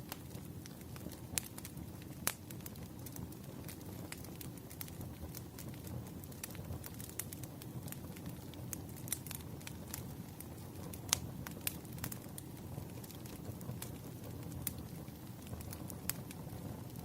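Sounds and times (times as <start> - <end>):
fire popping and crackling: 0.0 - 17.0
wood fire flames rushing: 0.0 - 17.0.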